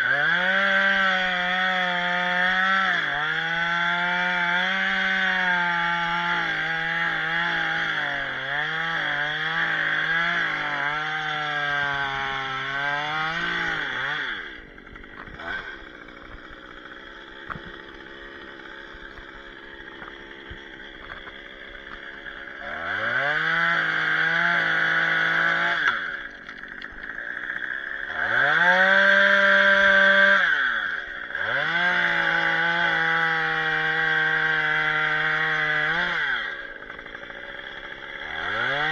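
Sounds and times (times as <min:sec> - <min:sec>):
chainsaw cutting and revving: 0:00.0 - 0:38.9.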